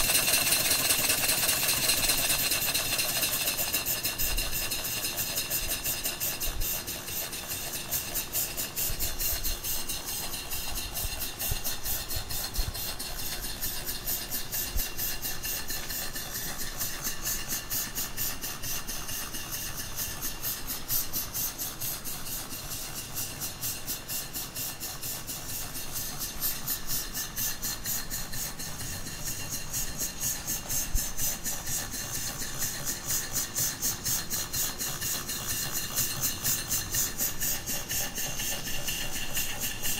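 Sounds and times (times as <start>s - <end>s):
steam engine hissing chuffs: 0.0s - 39.9s
whir of moving parts: 0.0s - 39.9s.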